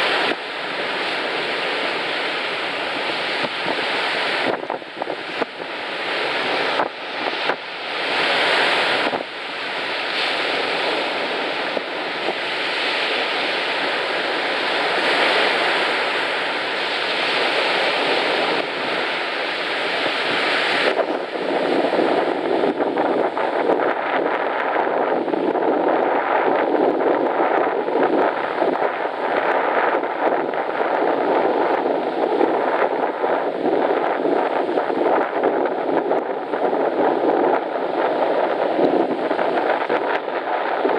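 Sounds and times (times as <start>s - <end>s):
surf washing on sandy beach: 0.0s - 40.9s
wind buffeting microphone: 0.0s - 40.9s.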